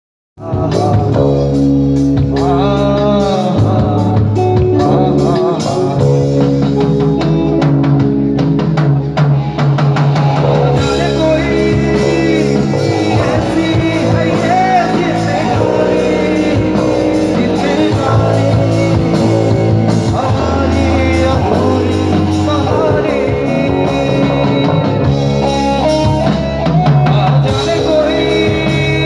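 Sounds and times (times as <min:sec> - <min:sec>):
live rock band playing: 0:00.4 - 0:29.0.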